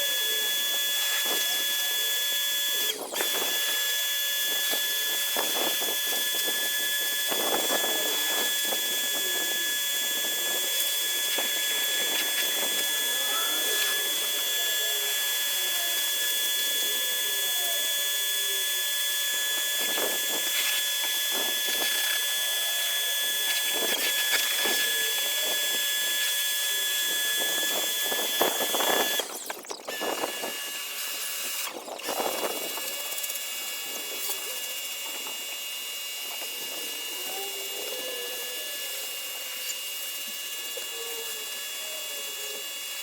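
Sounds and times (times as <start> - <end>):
pressure washer motor whine: 0.0 - 43.0.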